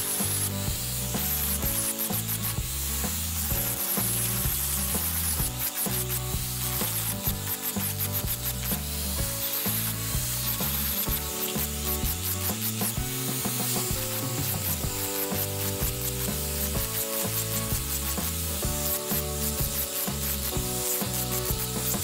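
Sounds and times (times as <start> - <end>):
angle grinder sanding wood: 0.0 - 22.0
background music with beat: 0.0 - 22.0.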